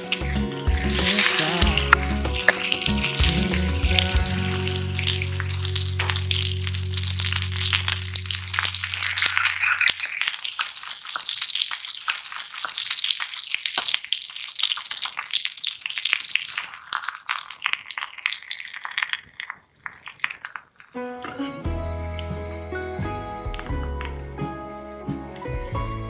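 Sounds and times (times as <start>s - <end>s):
food sizzling in frying pan: 0.0s - 24.5s.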